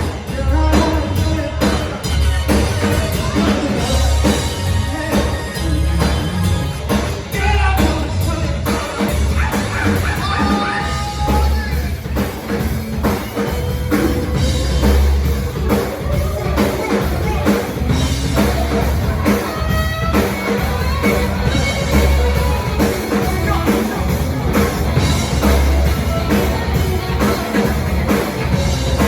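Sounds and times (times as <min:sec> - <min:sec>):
drum kit steady beat: 0:00.0 - 0:29.0
rock band playing live: 0:00.0 - 0:29.0.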